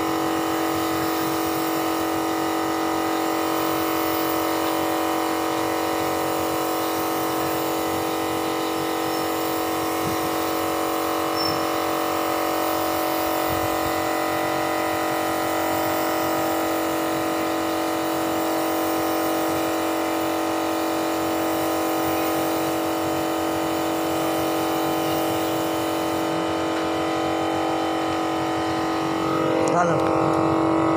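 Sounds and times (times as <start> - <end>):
paint spray hissing: 0.0 - 29.8
spray gun motor hum: 0.0 - 30.9.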